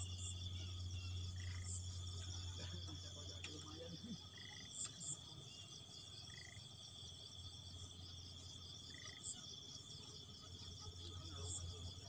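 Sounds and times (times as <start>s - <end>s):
insects chorus pulsing: 0.0s - 12.0s.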